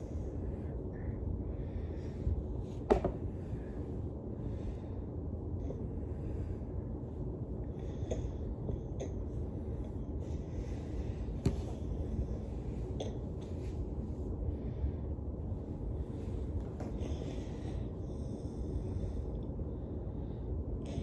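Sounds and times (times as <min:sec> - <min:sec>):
steady low rumble: 0:00.0 - 0:21.0
woman breathing heavily: 0:00.0 - 0:21.0.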